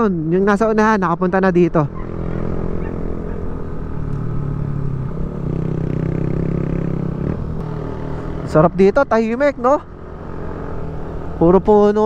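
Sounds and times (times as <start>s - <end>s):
scooter engine running: 1.9s - 12.0s.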